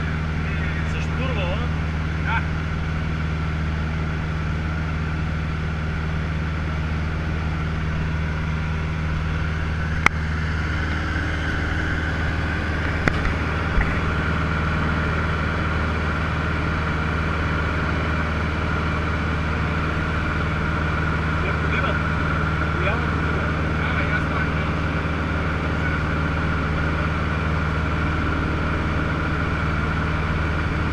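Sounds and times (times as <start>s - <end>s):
aircraft engine and propeller droning: 0.0s - 30.9s.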